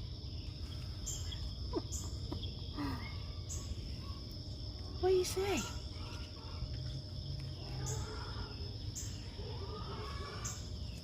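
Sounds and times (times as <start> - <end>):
insect buzz: 0.0 - 11.0
insect high-pitched trill: 0.0 - 11.0.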